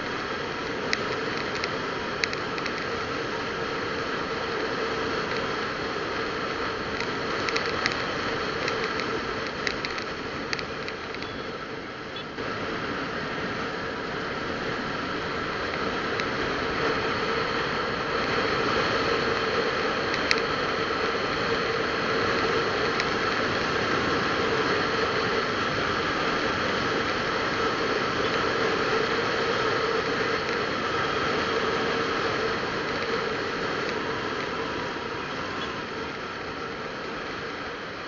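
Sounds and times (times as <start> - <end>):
engine drone: 0.0 - 38.0
wind and road noise: 0.0 - 38.0.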